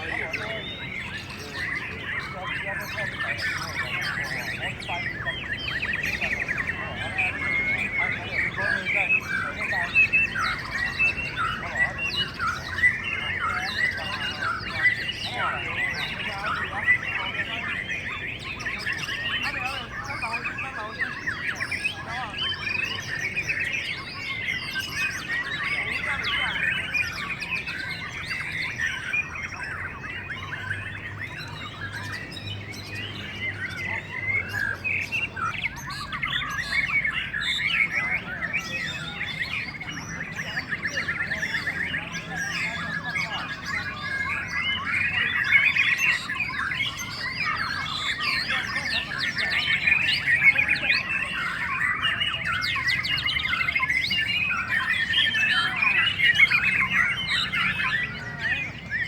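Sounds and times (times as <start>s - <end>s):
many songbirds singing: 0.0s - 59.0s.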